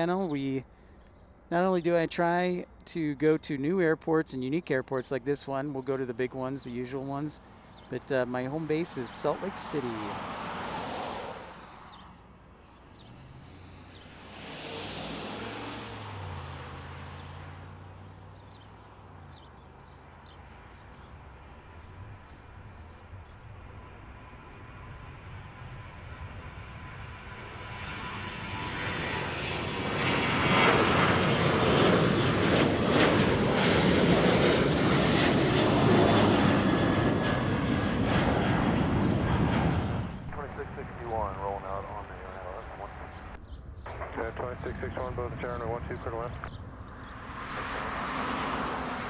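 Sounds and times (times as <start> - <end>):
jet engines at takeoff: 0.0 - 49.0.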